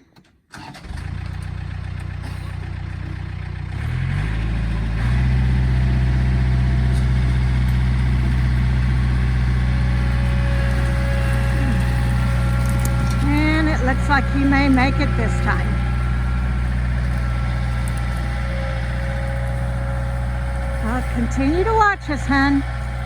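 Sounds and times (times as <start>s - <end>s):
machine engine pulling log: 0.5s - 23.0s.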